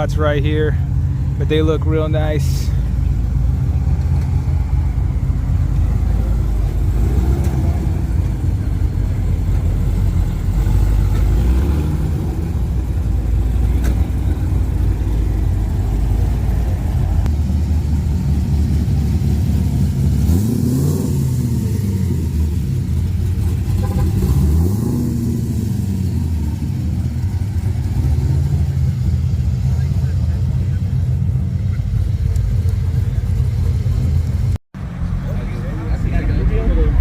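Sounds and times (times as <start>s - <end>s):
car engine revving: 0.0s - 37.0s
car engines idling: 0.0s - 37.0s.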